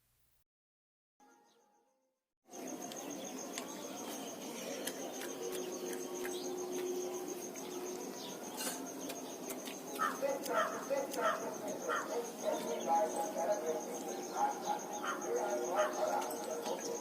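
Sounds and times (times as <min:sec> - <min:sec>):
insect trilling: 0:02.5 - 0:17.0.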